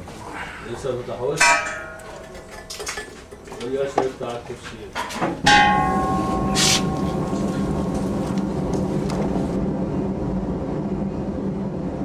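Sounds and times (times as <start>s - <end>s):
workshop equipment rumbling roar: 0.0s - 12.0s.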